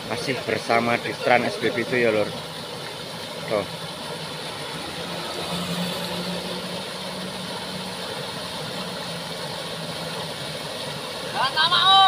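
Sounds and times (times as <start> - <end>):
low engine hum: 0.0 - 11.8
water rushing over a weir: 0.0 - 12.0.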